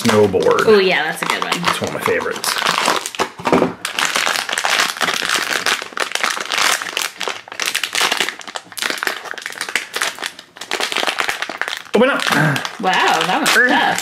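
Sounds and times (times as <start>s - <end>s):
foil pouch crinkling: 0.0s - 14.0s.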